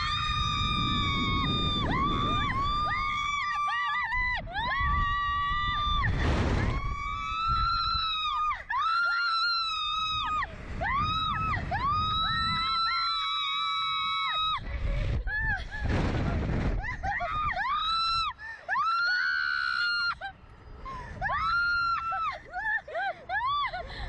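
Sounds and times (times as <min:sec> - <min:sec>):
women screaming: 0:00.0 - 0:15.8, 0:16.8 - 0:24.0
wind rushing over microphone: 0:00.0 - 0:18.5, 0:20.2 - 0:22.4.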